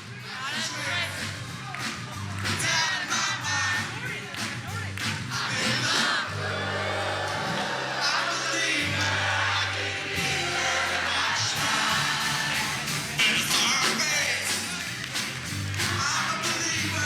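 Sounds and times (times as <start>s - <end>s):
song with singing and bass: 0.0s - 17.0s.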